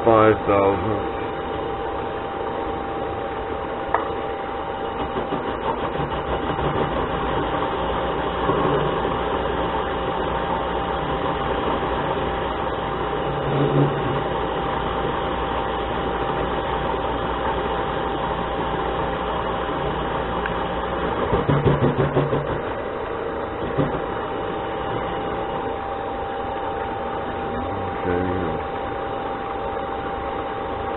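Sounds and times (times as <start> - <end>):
lathe running: 0.0 - 30.9.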